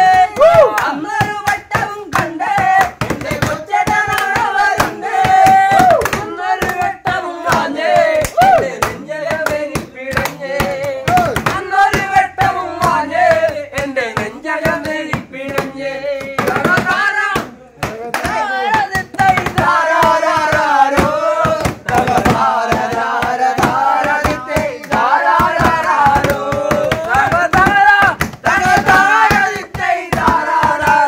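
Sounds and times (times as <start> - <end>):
hand claps: 0.0 - 31.0
hands slapping tabletop: 0.0 - 31.0
men singing together: 0.0 - 31.0.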